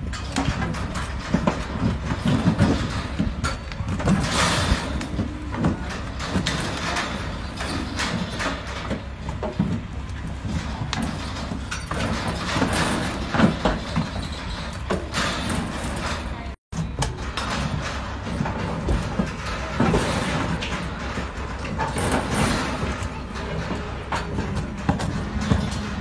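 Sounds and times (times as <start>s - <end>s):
cattle hooves on trailer floor: 0.0s - 26.0s
trailer rattling: 0.0s - 26.0s.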